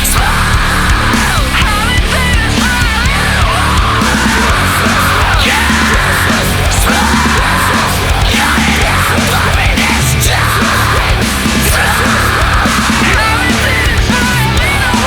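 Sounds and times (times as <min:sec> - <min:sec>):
distorted electric guitars: 0:00.0 - 0:15.0
heavy drums: 0:00.0 - 0:15.0.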